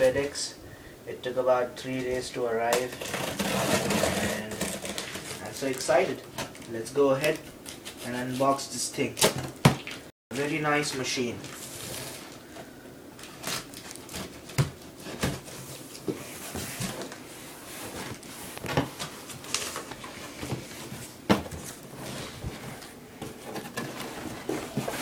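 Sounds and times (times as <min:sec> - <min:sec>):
packaging rustling and scraping: 0:02.7 - 0:10.1, 0:10.8 - 0:25.0.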